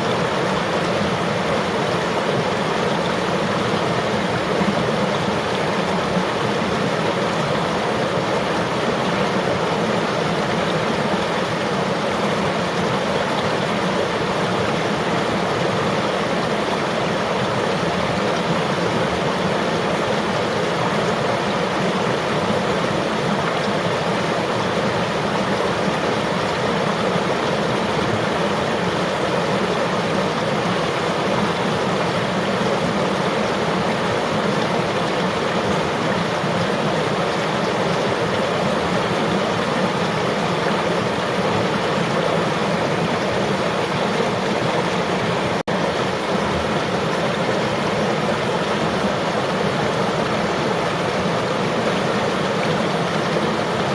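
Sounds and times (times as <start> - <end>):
river water flowing over rocks: 0.0 - 53.9.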